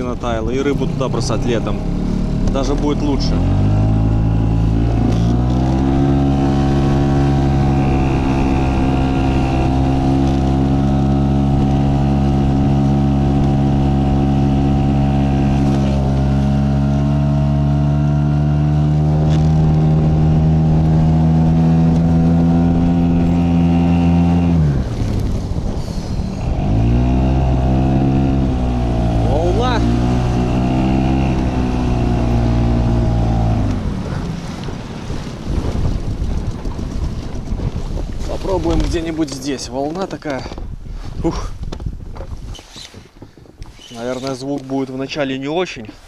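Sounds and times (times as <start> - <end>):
outboard motor droning: 0.0 - 39.6.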